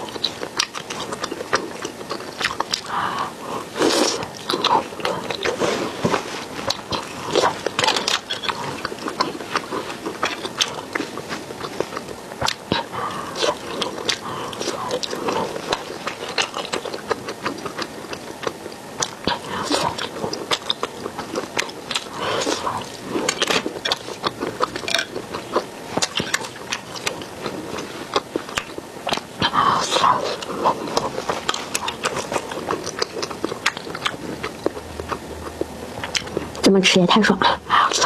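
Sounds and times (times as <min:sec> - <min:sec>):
person chewing and lip-smacking: 0:00.0 - 0:36.7, 0:37.3 - 0:38.0.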